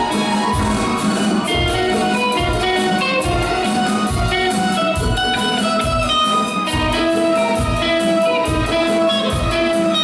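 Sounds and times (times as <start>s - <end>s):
drum kit beat: 0.0s - 10.0s
electric guitar: 0.0s - 10.0s.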